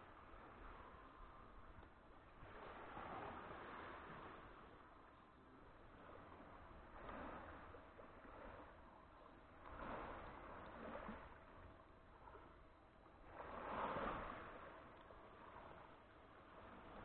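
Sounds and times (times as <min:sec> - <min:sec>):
faint sea waves washing ashore: 0:00.0 - 0:17.0.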